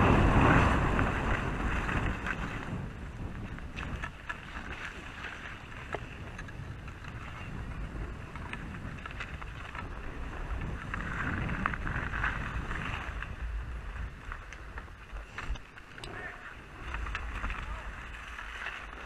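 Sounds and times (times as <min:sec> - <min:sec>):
skis scraping over snow: 0:00.0 - 0:19.0.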